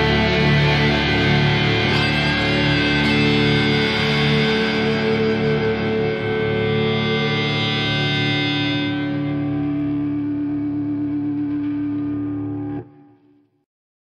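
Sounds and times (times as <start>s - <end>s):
distorted electric guitars and bass: 0.0s - 13.4s.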